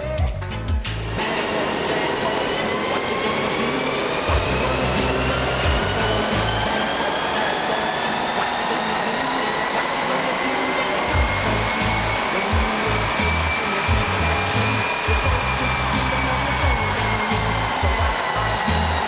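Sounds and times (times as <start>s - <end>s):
engine running under load: 0.9s - 19.0s
rising whine: 0.9s - 19.0s
cooling fans: 1.0s - 19.0s
dyno rollers: 1.0s - 19.0s.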